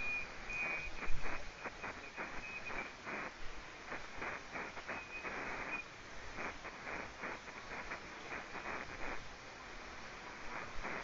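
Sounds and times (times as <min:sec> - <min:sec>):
radio static hiss and crackling: 0:00.0 - 0:11.0.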